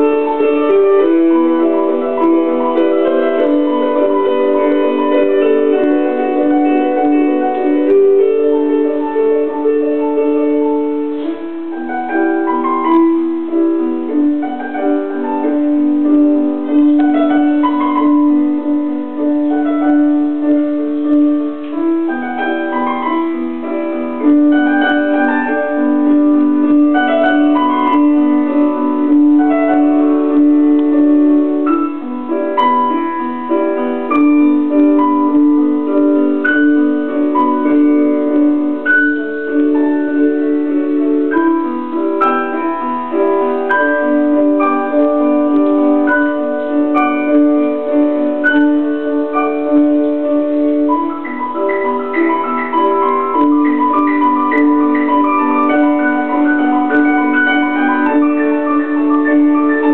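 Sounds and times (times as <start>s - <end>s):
piano-like melody: 0.0s - 59.9s.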